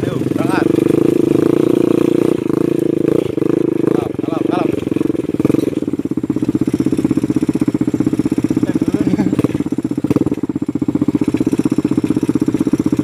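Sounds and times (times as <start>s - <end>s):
quad engine running at low revs: 0.0s - 13.0s.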